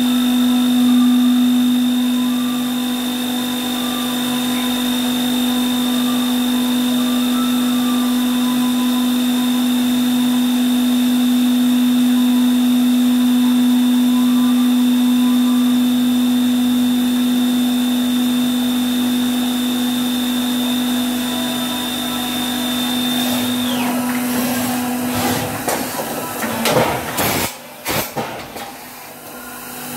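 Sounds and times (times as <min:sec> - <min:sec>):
spindle high whine: 0:00.0 - 0:27.8
machine spindle hum: 0:00.0 - 0:29.9.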